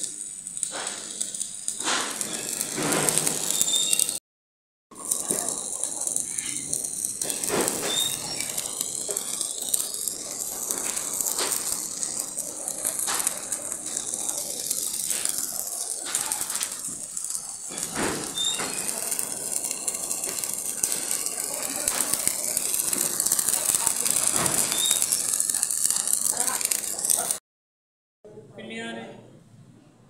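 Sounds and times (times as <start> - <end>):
welding arc crackling and hissing: 0.0 - 4.2, 4.9 - 27.4.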